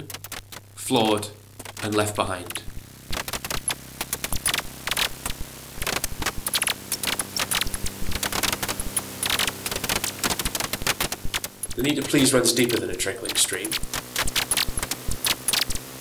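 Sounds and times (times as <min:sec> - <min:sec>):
rapid irregular clicking and clattering: 0:00.0 - 0:15.8
faint low hum: 0:00.0 - 0:16.0.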